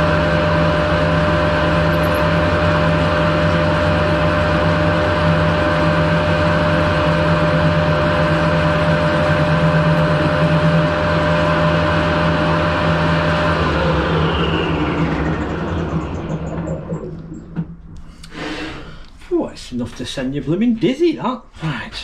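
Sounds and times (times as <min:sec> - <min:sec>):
metal lathe running: 0:00.0 - 0:18.0
lathe chuck spinning down: 0:00.0 - 0:18.1.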